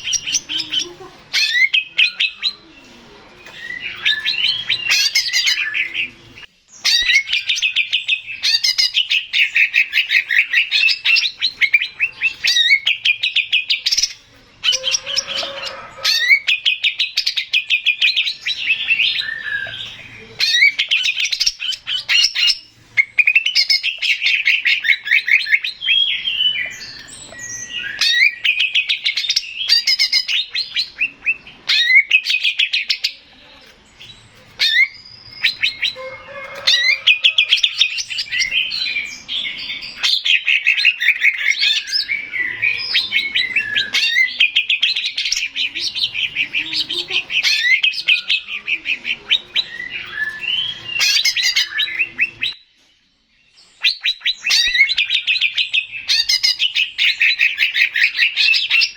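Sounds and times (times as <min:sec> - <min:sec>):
bird singing rapid trills: 0:00.0 - 0:02.7, 0:03.5 - 0:52.6.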